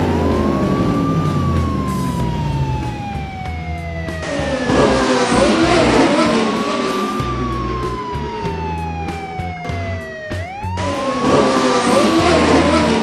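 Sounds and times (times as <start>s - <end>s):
rushing noise: 0.0s - 8.4s, 10.8s - 13.0s
background music: 0.0s - 13.0s
siren wailing: 0.0s - 13.0s.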